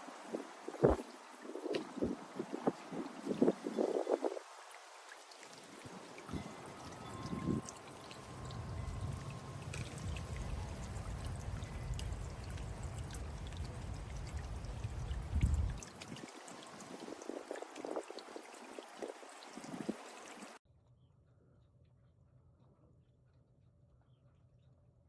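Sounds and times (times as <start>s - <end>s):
fountain water splashing: 0.0s - 20.6s
water trickling: 0.0s - 20.6s.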